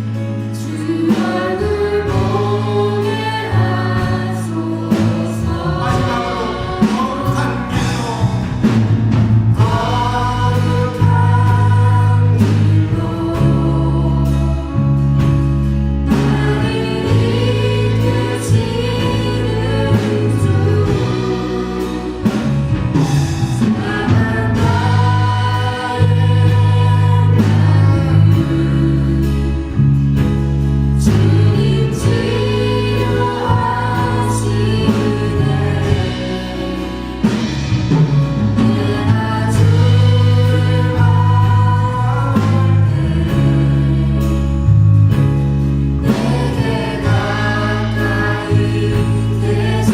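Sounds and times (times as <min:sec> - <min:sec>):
group of voices singing: 0:00.0 - 0:49.9
worship band playing: 0:00.0 - 0:49.9.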